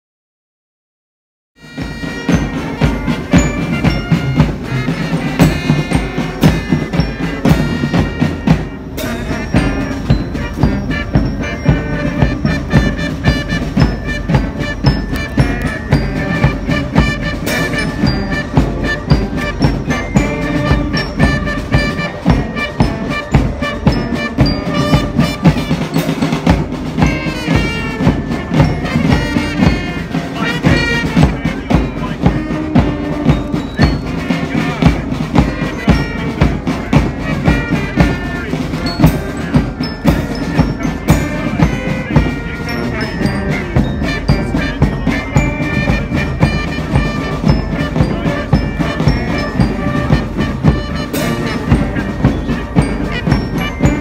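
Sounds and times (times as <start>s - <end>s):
brass: 1.6s - 54.0s
mallet percussion: 1.6s - 54.0s
steady drumbeat: 1.6s - 54.0s.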